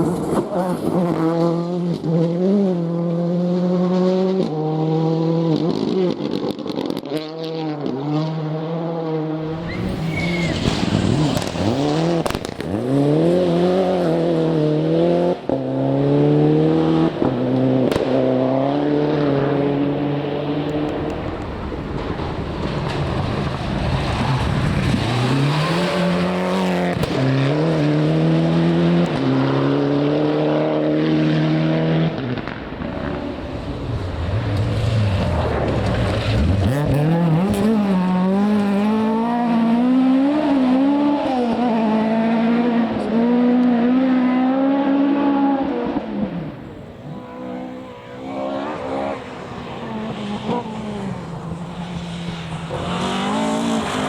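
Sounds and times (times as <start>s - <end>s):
rally car engine at full throttle: 0.0s - 54.0s.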